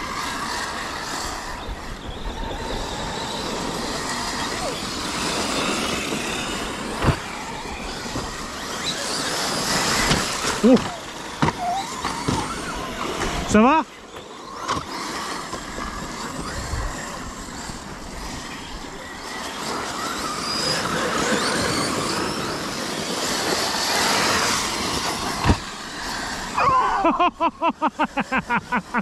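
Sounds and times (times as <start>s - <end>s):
rc car motors whining: 0.0s - 29.0s
tyres rushing on dirt: 0.0s - 29.0s.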